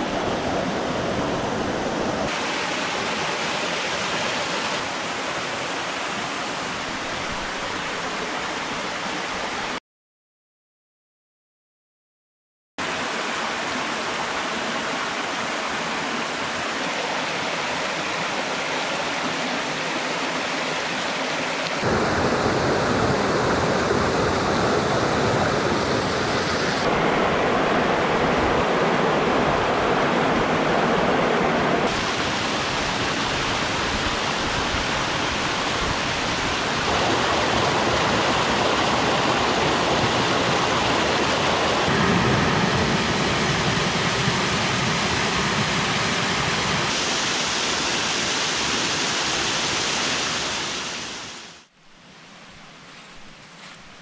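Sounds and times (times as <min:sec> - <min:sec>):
stream rushing over rocks: 0:00.0 - 0:09.8, 0:12.8 - 0:51.7.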